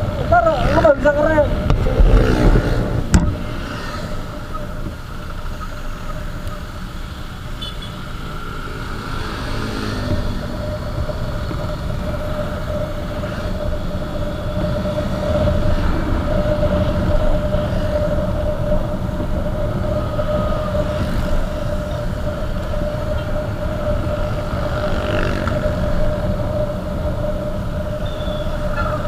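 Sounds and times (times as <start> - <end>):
wind rumble on microphone: 0.0 - 7.0, 8.1 - 29.0.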